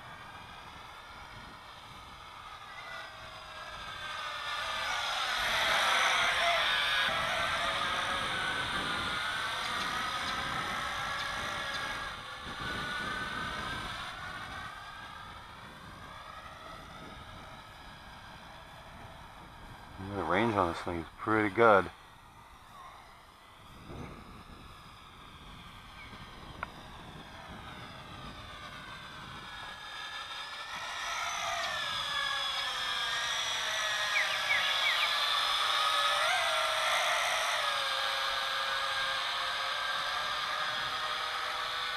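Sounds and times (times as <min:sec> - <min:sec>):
low wind rumble: 0:00.0 - 0:41.9
toy drone motors buzzing: 0:00.0 - 0:41.9.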